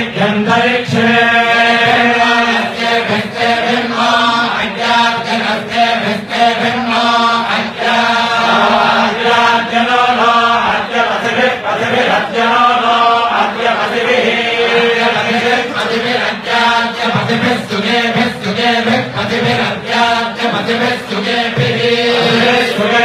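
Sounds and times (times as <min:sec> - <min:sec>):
voices chanting: 0:00.0 - 0:23.0.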